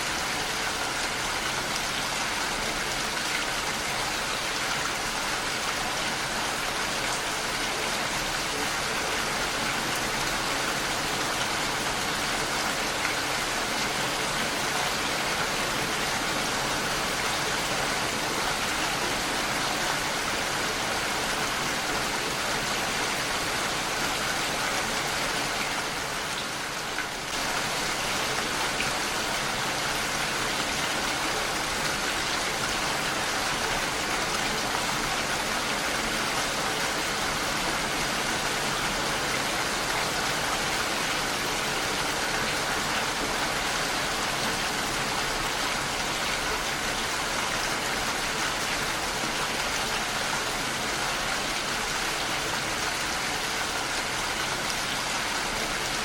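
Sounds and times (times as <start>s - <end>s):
heavy rain on window: 0.0s - 56.0s.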